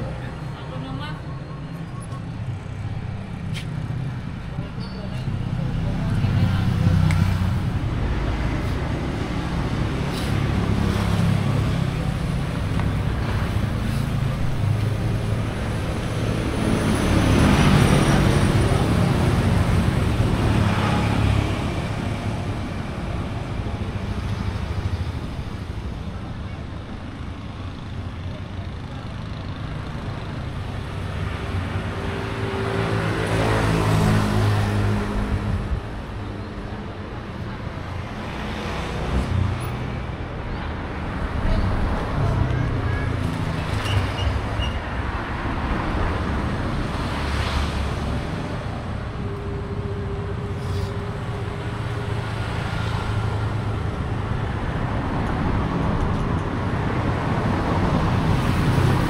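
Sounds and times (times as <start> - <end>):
low rumble of road vehicles: 0.0 - 59.0.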